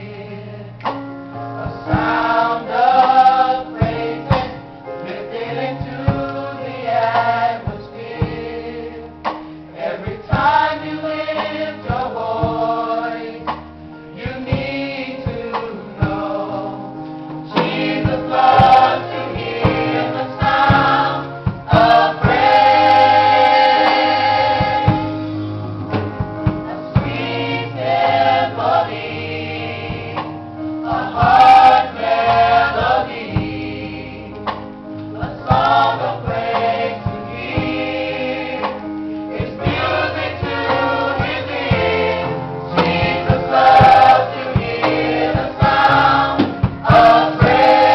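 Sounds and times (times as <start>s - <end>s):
band accompaniment: 0.0s - 47.9s
gospel choir singing: 0.0s - 47.9s.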